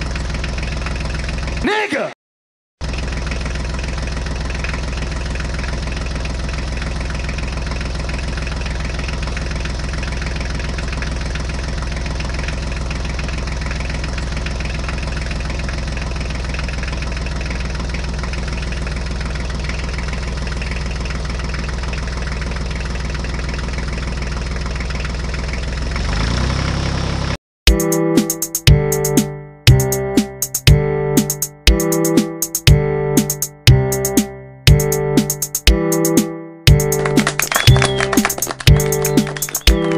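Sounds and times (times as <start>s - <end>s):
truck engine idling: 0.0s - 1.6s, 2.8s - 26.3s, 27.8s - 39.9s.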